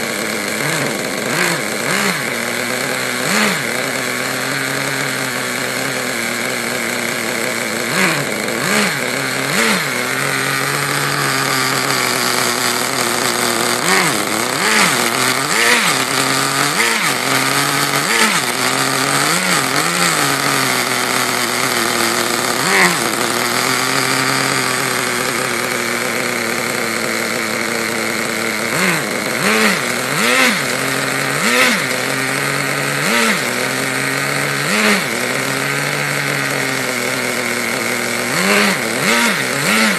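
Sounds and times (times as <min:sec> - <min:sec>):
engine throttle blips: 0:00.0 - 0:39.9
small nitro engine idling: 0:00.0 - 0:39.9.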